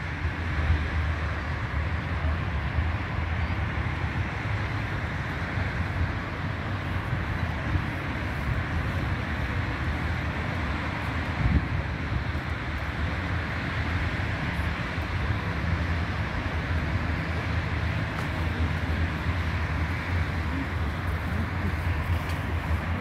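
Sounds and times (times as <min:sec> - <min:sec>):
outdoor background rumble: 0:00.0 - 0:23.0.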